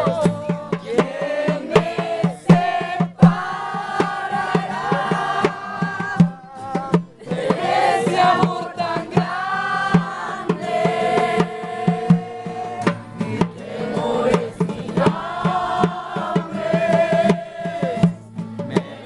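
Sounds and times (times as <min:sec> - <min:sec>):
drum hits: 0:00.0 - 0:19.0
voices singing worship song: 0:00.0 - 0:19.0.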